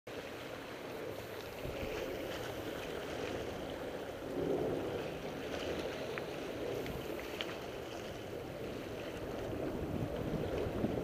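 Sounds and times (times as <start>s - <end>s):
wind on microphone: 0.1s - 11.0s
waves washing against rocks: 0.3s - 11.0s.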